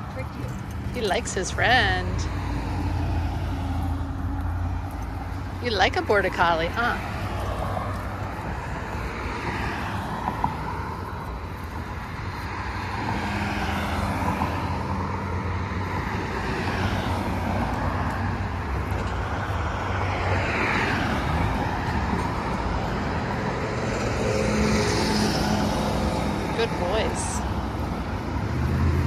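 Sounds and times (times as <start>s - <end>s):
cars passing: 0.0s - 29.0s
traffic rumble: 0.0s - 29.0s.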